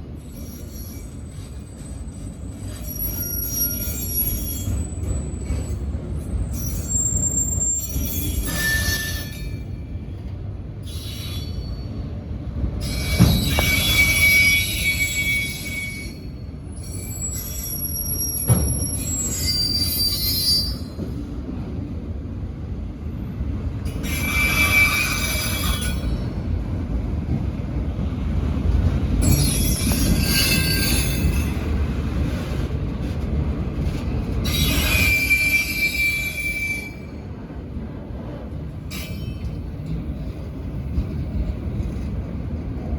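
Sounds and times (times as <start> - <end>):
freight train rumbling past: 0.0 - 42.9
train wheels squealing: 0.1 - 12.2, 12.8 - 21.3, 23.8 - 26.6, 28.8 - 33.2, 33.8 - 37.6, 38.2 - 42.2.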